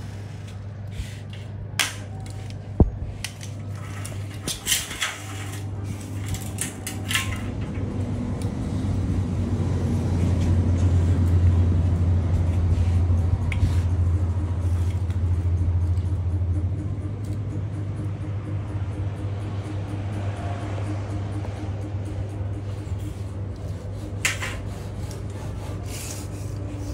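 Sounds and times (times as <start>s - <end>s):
loud low hum: 0.0s - 26.9s.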